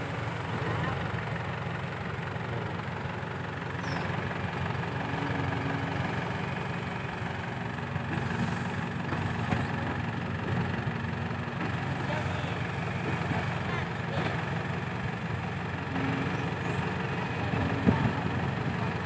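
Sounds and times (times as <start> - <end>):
dump truck diesel engine running: 0.0 - 19.0
excavator diesel engine running: 0.0 - 19.0.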